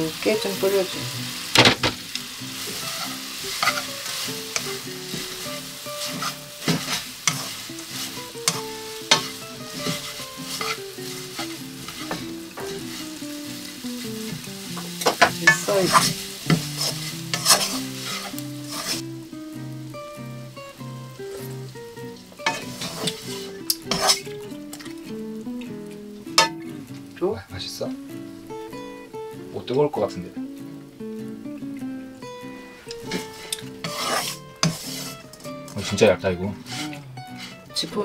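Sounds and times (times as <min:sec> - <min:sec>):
fish sizzling in a frying pan: 0:00.0 - 0:38.0
quiet background music: 0:00.0 - 0:38.0.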